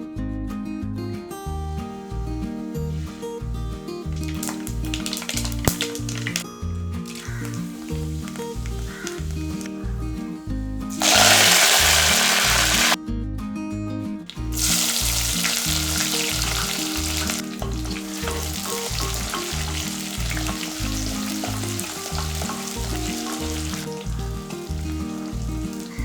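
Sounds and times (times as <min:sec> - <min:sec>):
food sizzling in hot oil: 0:01.8 - 0:13.0, 0:14.3 - 0:26.0.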